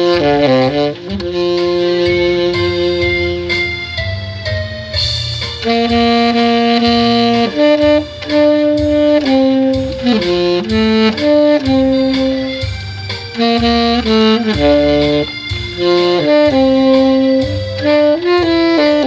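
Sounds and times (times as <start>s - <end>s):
backing accompaniment: 0.0s - 19.0s
tenor saxophone melody: 0.0s - 19.0s.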